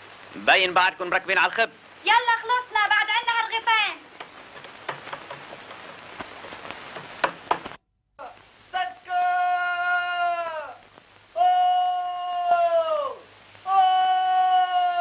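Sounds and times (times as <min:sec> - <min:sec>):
film soundtrack hiss and crackle: 0:00.0 - 0:15.0.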